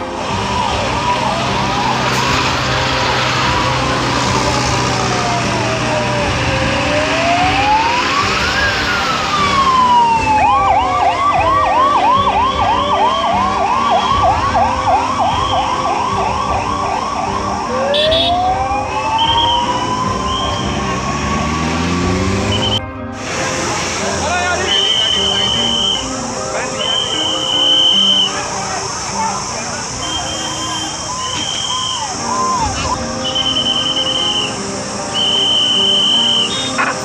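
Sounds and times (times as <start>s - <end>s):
ambulance siren wailing: 0.0s - 22.9s, 24.1s - 37.0s
vehicle engines running: 0.0s - 37.0s.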